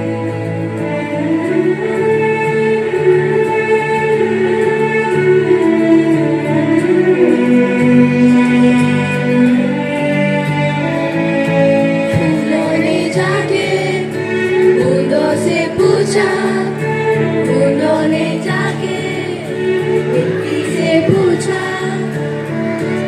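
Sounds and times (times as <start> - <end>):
children's choir singing: 0.0 - 11.0, 12.0 - 23.0
instrumental accompaniment: 0.0 - 23.0.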